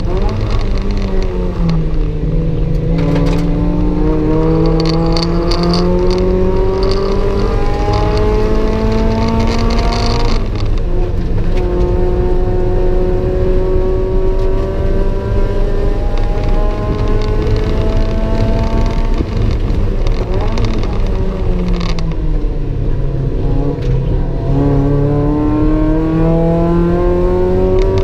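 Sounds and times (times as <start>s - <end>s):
car engine accelerating: 0.0s - 28.0s
road and wind noise: 0.0s - 28.0s.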